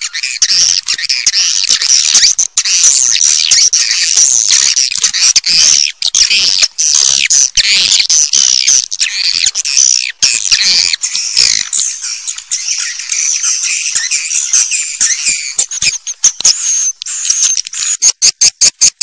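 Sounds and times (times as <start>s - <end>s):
swiftlets twittering chorus: 0.0s - 18.4s.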